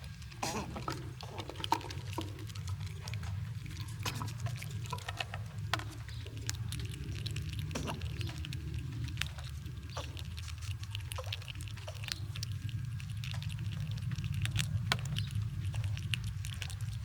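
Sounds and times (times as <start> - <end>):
squirrels gnawing nuts: 0.0 - 17.0
steady low hum: 0.0 - 17.0.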